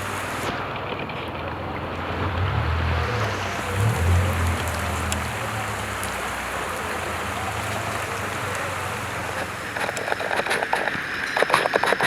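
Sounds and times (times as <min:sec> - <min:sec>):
low engine hum: 0:00.0 - 0:10.4
choppy water splashing: 0:00.0 - 0:12.0
floodwater rushing: 0:00.0 - 0:12.0.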